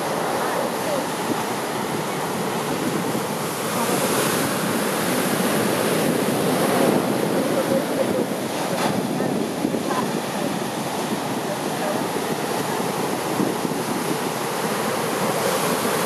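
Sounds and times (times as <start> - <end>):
heavy surf breaking: 0.0 - 16.0
wind on microphone: 0.0 - 16.0.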